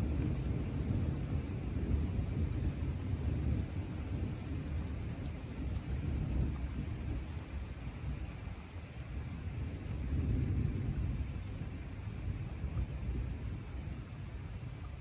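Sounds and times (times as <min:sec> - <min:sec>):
thunder rumbling: 0:00.0 - 0:08.4, 0:09.3 - 0:14.7
rain hissing: 0:00.0 - 0:15.0.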